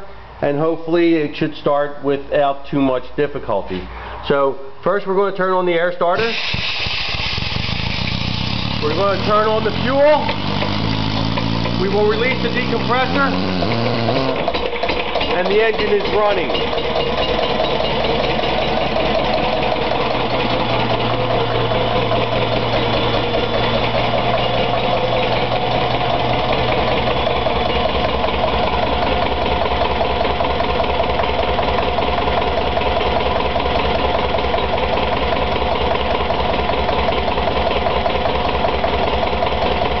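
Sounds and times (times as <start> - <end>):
diesel engine running: 6.2 - 40.0.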